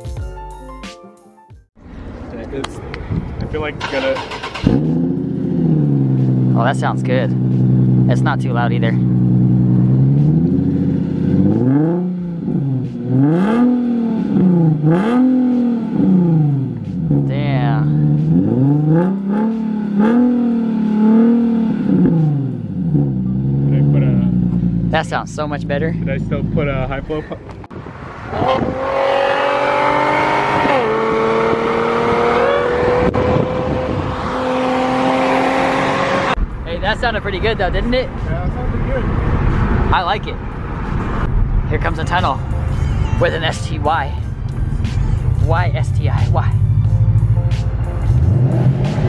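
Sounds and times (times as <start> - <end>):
car engine revving: 1.8 - 49.0.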